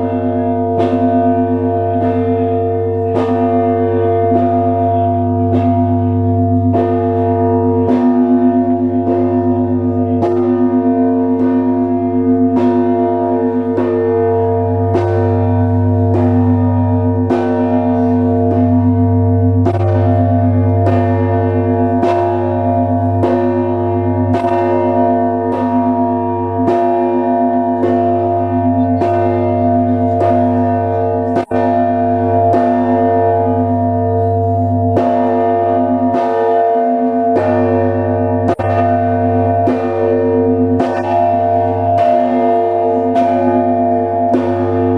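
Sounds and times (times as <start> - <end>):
deep bass bell: 0.0 - 44.9.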